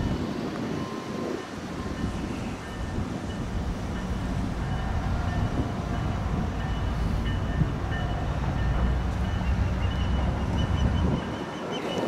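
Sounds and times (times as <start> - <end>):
crossing bell ringing: 0.0 - 12.0
train rumbling: 0.0 - 12.0.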